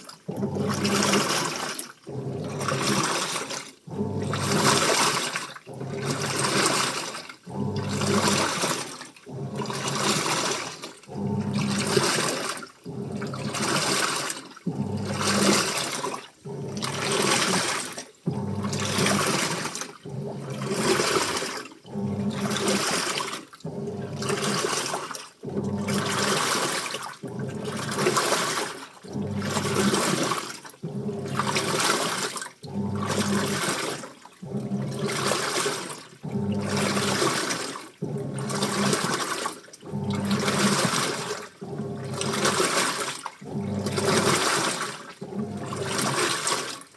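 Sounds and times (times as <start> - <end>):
washing machine drum sloshing: 0.0 - 46.9
washing machine motor hum: 0.0 - 46.9.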